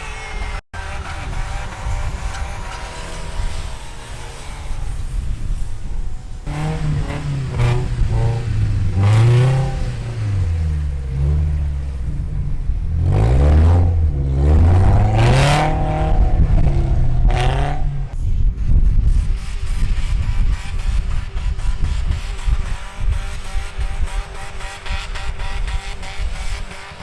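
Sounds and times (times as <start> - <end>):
truck engine revving: 0.0 - 18.3, 19.1 - 27.0.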